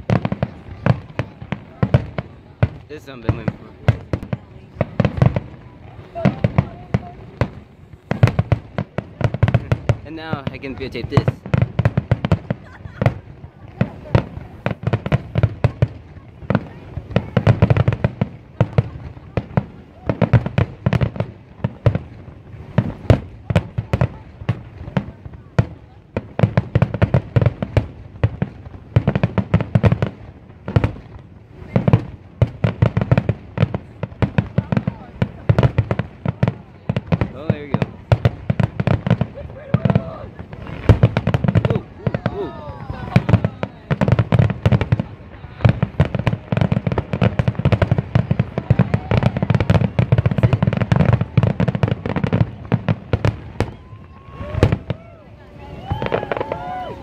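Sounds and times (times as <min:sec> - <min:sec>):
fireworks bangs: 0:00.0 - 0:57.0.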